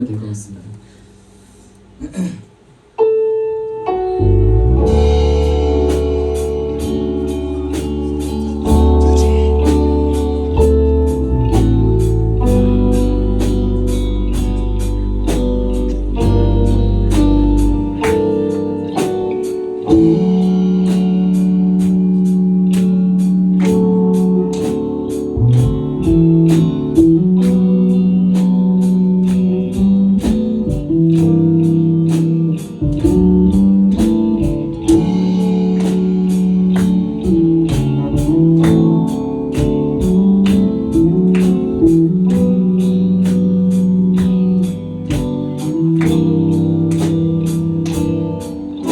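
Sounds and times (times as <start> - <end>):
guitar: 0.0 - 48.9
bass line: 4.1 - 48.9
steady beat: 4.2 - 48.9.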